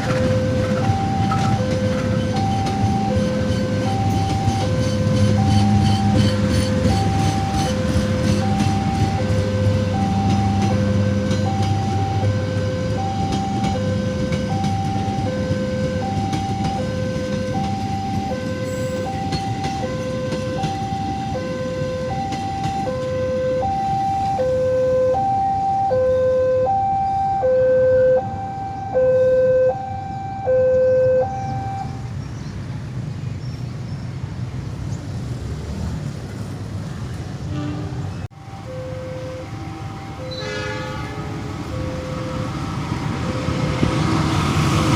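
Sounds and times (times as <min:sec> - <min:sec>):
two-tone level crossing alarm: 0:00.0 - 0:32.0, 0:38.3 - 0:44.9.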